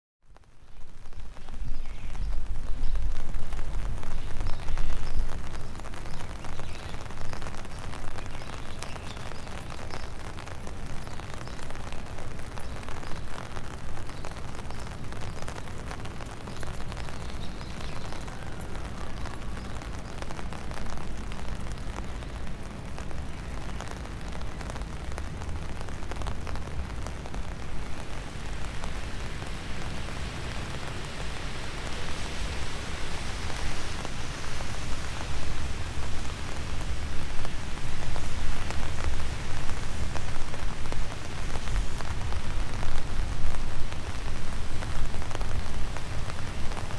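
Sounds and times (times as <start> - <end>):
steady rain falling: 0.2 - 46.9.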